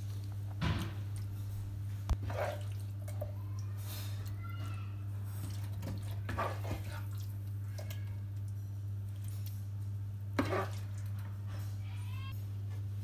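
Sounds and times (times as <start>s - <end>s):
wet food squishing: 0.0s - 11.3s.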